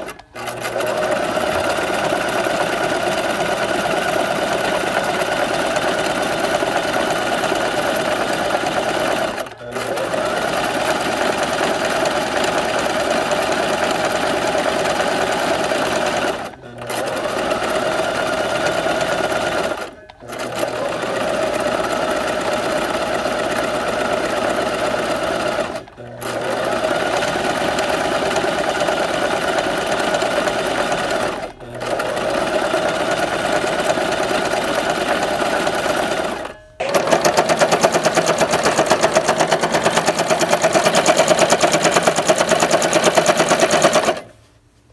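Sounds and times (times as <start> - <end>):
sewing machine stitching: 0.0 - 44.4.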